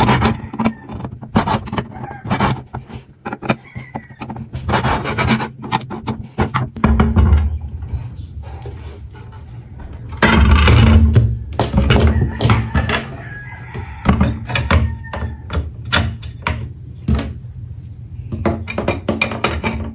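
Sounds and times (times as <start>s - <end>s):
knocks and clatters: 0.0s - 8.0s, 9.8s - 17.5s, 18.3s - 19.9s.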